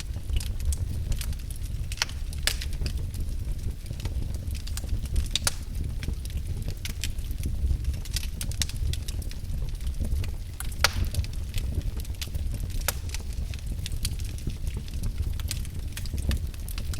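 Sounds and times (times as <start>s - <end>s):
low fire rumble: 0.0s - 16.9s
wood fire crackling and popping: 0.0s - 16.9s.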